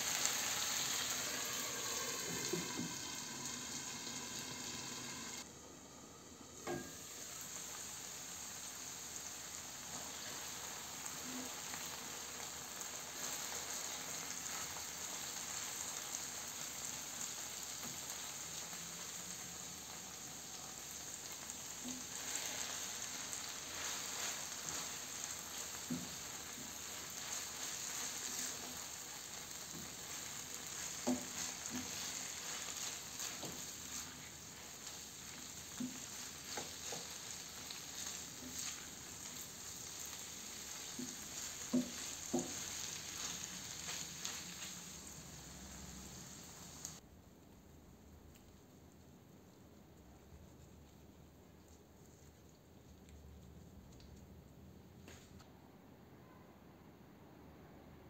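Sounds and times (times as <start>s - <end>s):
food sizzling in frying pan: 0.0s - 47.0s.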